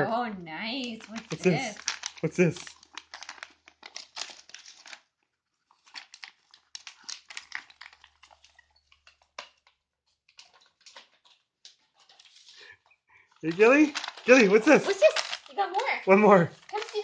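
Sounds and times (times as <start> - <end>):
wrapping paper crackling and tearing: 0.8 - 17.0.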